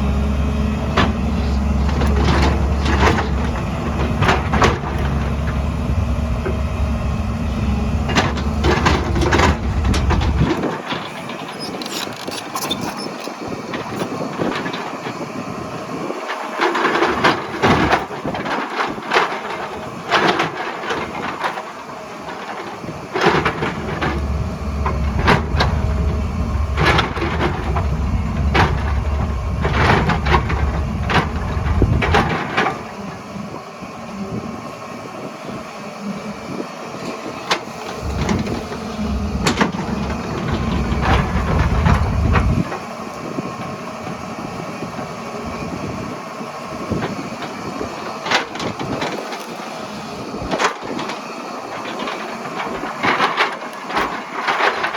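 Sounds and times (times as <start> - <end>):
excavator diesel engine rumbling: 0.0 - 54.9.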